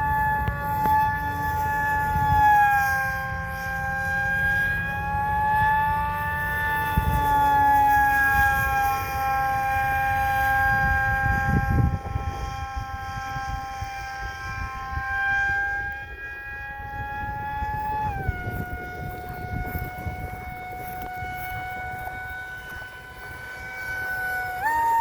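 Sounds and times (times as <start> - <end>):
electric motor and propeller whine: 0.0 - 25.0
wind rumbling on microphone: 0.0 - 25.0.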